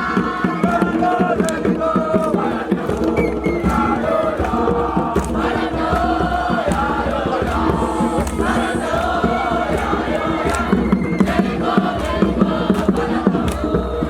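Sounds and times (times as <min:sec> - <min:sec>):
group of voices chanting: 0:00.0 - 0:14.0.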